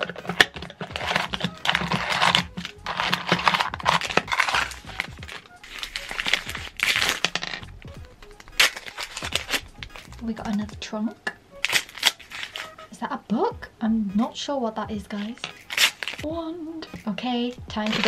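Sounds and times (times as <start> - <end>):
paper wrappers crinkling and tearing: 0.0 - 10.8, 11.6 - 13.0, 15.1 - 16.3, 16.9 - 18.0
background music: 0.0 - 18.0.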